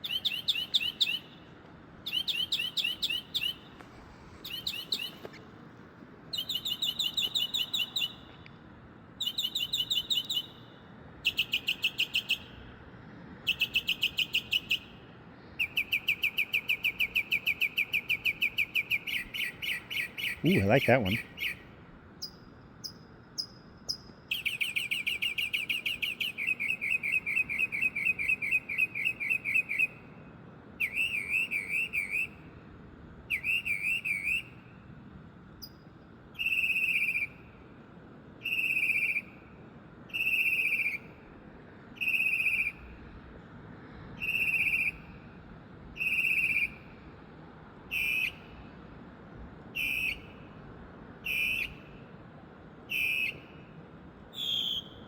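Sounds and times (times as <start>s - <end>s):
songbird singing: 0.0s - 5.5s, 6.3s - 8.6s, 9.2s - 12.8s, 13.4s - 32.6s, 33.2s - 34.9s, 35.6s - 37.7s, 38.4s - 41.2s, 41.9s - 43.0s, 44.1s - 45.4s, 46.0s - 47.0s, 47.9s - 48.8s, 49.6s - 50.5s, 51.2s - 52.2s, 52.8s - 55.0s.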